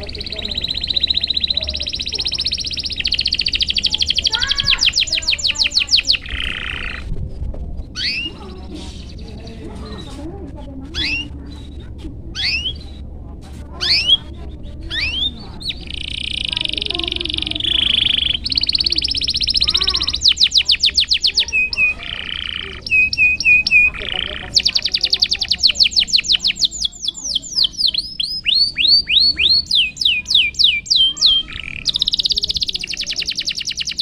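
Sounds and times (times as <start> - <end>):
canary singing: 0.0 - 7.2, 7.8 - 34.0.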